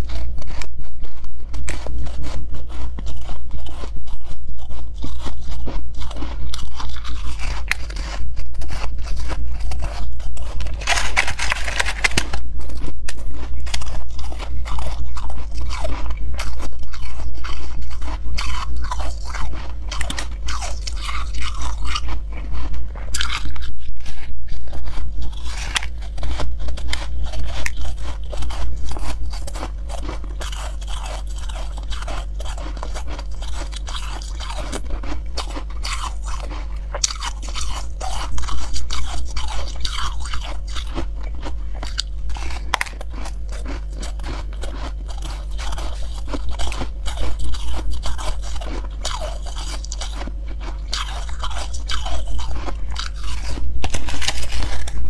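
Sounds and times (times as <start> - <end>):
crunching ice: 0.0 - 55.0.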